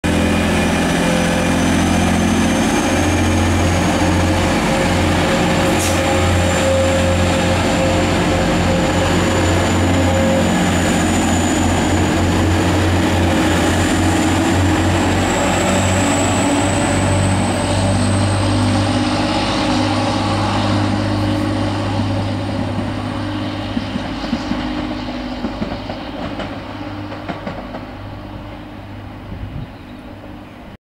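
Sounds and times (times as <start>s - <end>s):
high whine rising in pitch: 0.0s - 27.2s
diesel train engines running: 0.0s - 30.8s.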